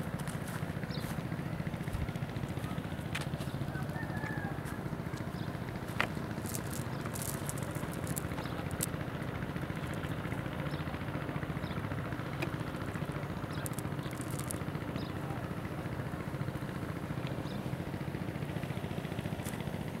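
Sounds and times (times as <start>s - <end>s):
small engine chugging: 0.0s - 20.0s.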